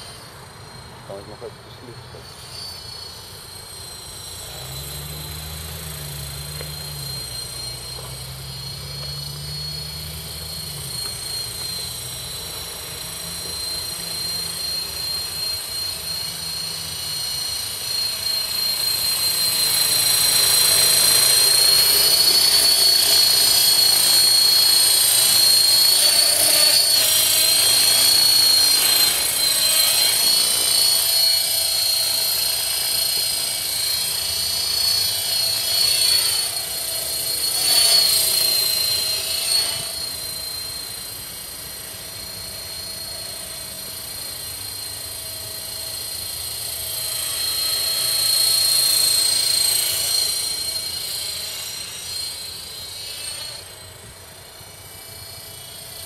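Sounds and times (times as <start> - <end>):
helicopter rotor noise: 0.0 - 56.0
rc helicopter motor whine: 0.0 - 56.0.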